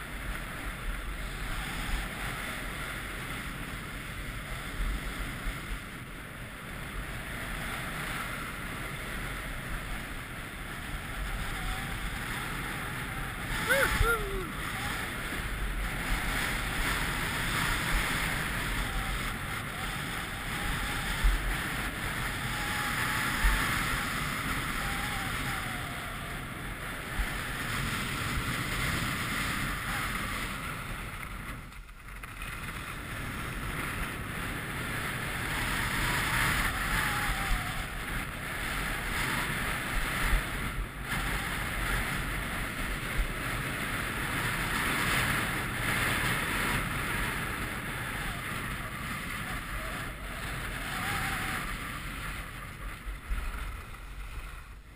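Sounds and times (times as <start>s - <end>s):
skis sliding over snow: 0.0s - 54.9s
wind buffeting microphone: 0.0s - 54.9s.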